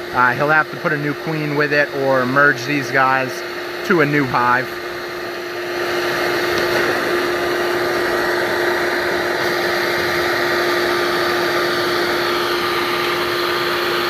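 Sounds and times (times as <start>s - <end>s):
vacuum whining: 0.0s - 14.0s.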